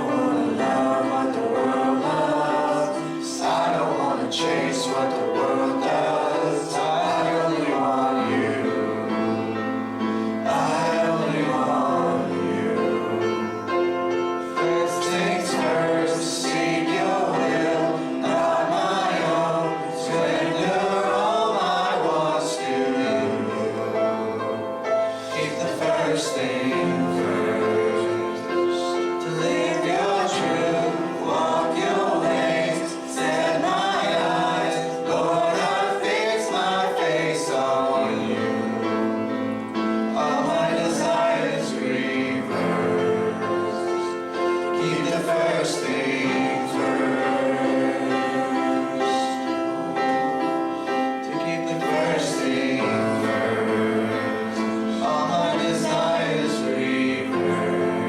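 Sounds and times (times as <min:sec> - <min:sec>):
group singing gospel song: 0:00.0 - 0:58.0.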